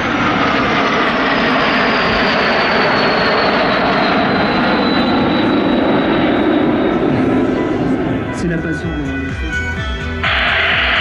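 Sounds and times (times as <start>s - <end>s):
jets flying past: 0.0s - 9.0s.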